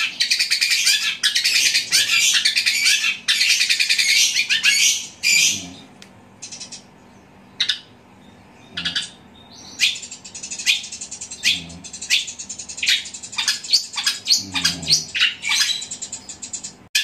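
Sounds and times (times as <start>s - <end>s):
bird singing harsh chatter: 0.0s - 17.0s.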